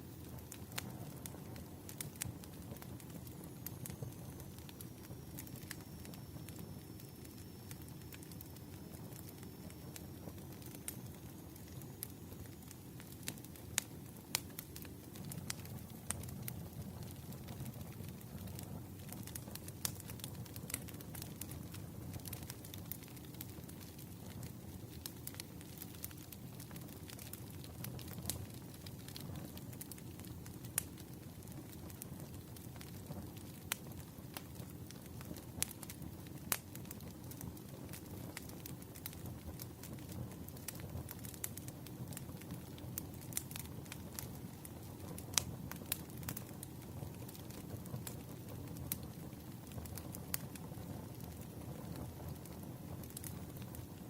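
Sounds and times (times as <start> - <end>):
firewood crackling and popping: 0.0 - 54.0
low rumble of flames: 0.0 - 54.0.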